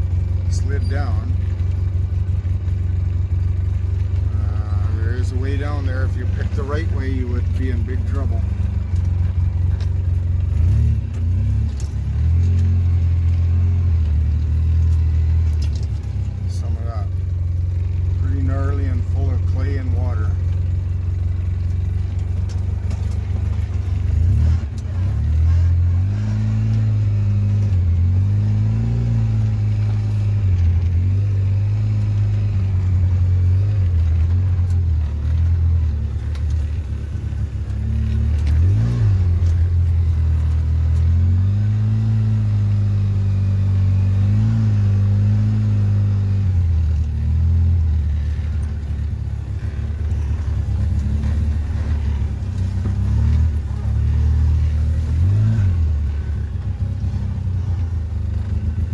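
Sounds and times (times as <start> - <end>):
quad engine revving: 4.2 - 17.2, 18.0 - 20.6, 21.9 - 58.9.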